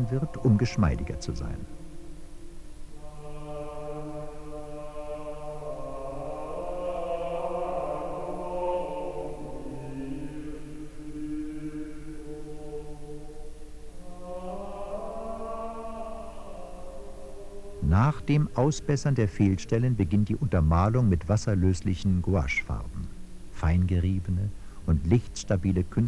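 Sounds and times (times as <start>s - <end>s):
slow choral chant: 0.0s - 26.0s.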